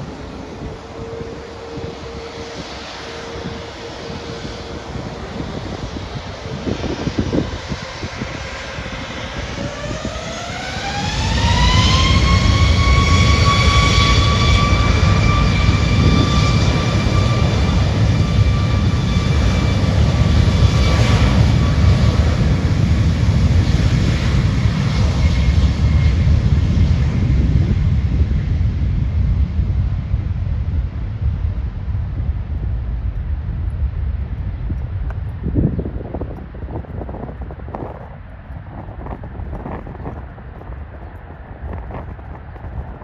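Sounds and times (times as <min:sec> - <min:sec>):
jet engine whine: 0:00.0 - 0:43.0
loud low rumble: 0:00.0 - 0:43.0.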